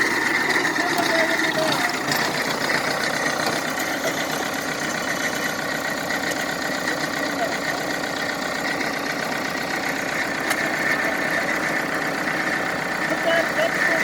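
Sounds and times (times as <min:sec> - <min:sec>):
heavy equipment engine running: 0:00.0 - 0:14.0.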